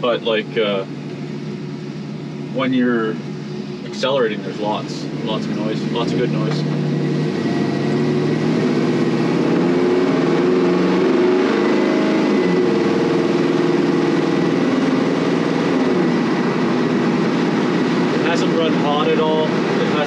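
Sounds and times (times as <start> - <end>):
engine accelerating from inside cab: 0.0 - 20.0.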